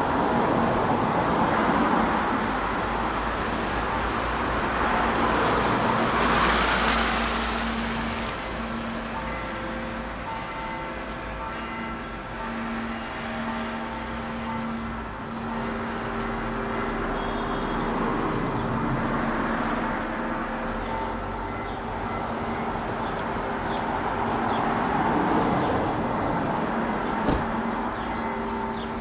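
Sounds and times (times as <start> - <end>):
steady traffic hum: 0.0 - 29.0.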